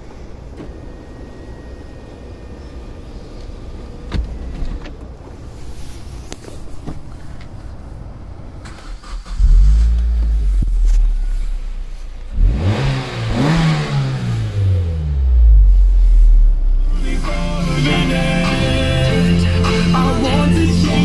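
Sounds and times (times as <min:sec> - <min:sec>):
car engine: 0:00.0 - 0:21.0.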